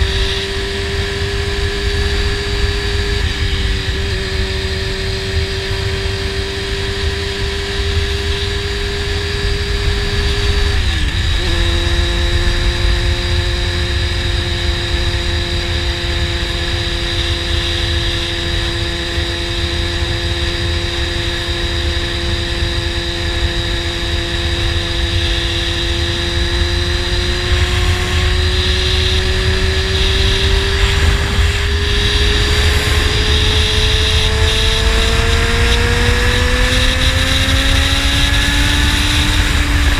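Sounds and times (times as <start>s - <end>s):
sport bike engine cruising: 0.0s - 39.9s
wind rushing over microphone: 0.0s - 39.9s.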